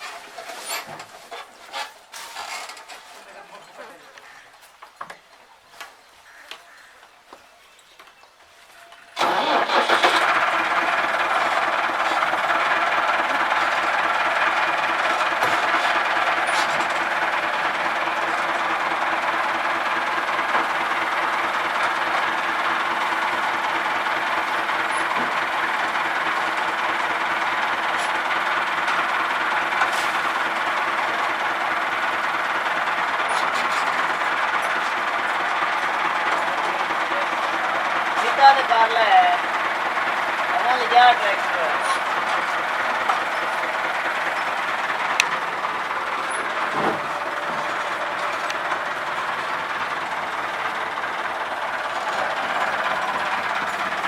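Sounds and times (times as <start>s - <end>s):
tractor diesel engine running: 8.4s - 54.0s
chaff cutter machine: 9.2s - 54.0s.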